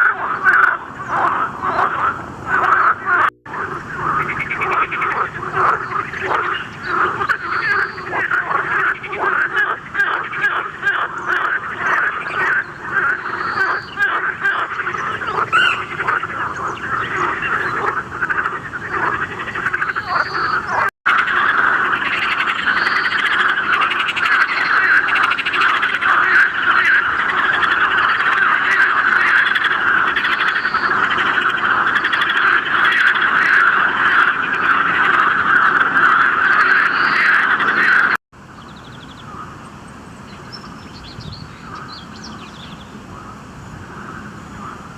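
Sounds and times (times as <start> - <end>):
chorus of frogs calling: 0.0 - 39.7, 40.3 - 44.9.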